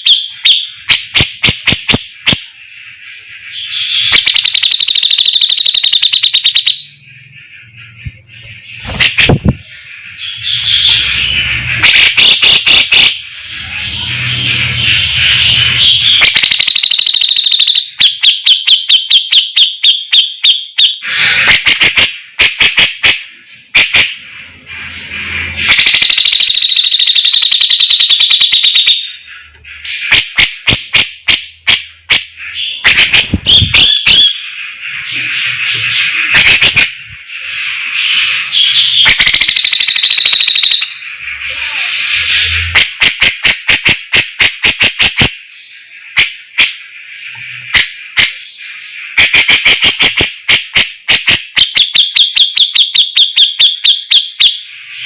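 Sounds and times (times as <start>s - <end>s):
bird singing with rattling trills: 0.0s - 50.8s.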